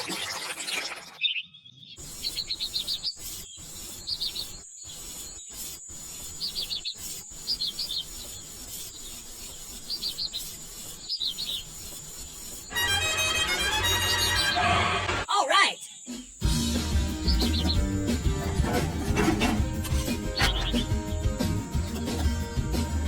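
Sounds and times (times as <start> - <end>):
birds chirping: 0.3 - 23.0
scraping rubbing sound: 2.0 - 15.2, 16.8 - 23.0.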